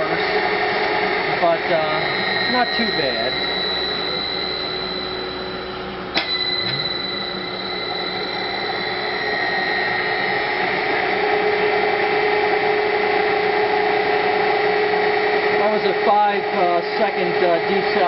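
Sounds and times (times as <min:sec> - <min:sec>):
electric motor whining: 0:00.0 - 0:18.0
high switching tones: 0:00.0 - 0:18.0.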